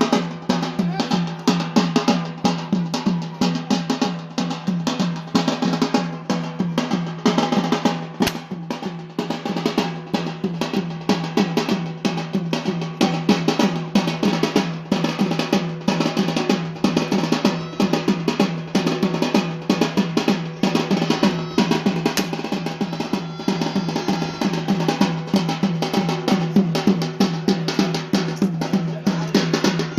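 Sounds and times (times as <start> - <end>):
drums beaten in fast rhythm: 0.0 - 29.9.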